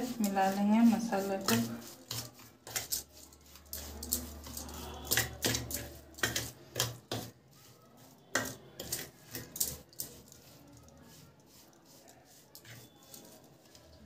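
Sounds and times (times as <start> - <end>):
spoon scraping a metal plate: 0.0 - 14.0.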